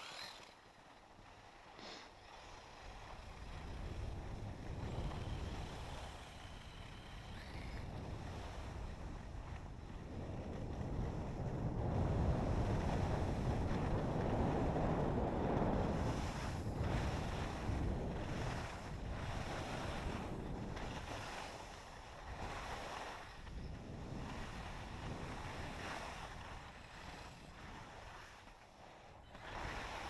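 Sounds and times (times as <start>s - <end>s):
skis sliding over snow: 0.0s - 30.0s
wind rushing over microphone: 3.0s - 28.4s.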